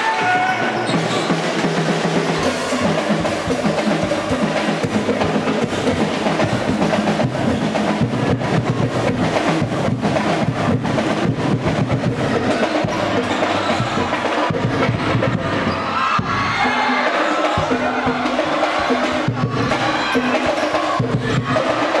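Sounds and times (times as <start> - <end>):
crowd noise: 0.0 - 22.0
drums beating fast rhythm: 0.0 - 22.0.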